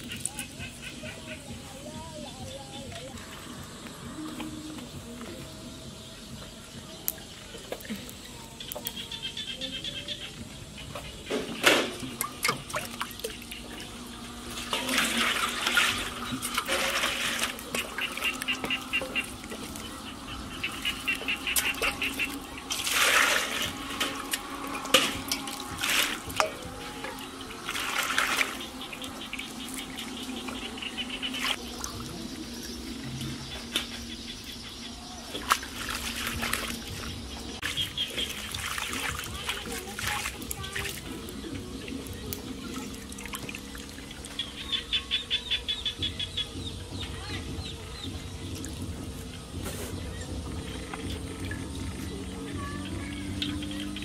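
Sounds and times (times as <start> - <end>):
water splashing in a metal basin: 0.0 - 54.0.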